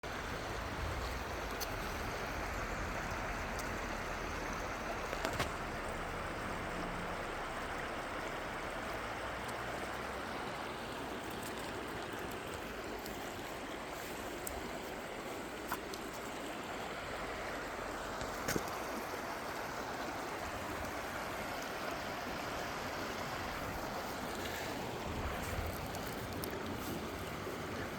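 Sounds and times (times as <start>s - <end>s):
stream running over rocks: 0.0s - 27.9s.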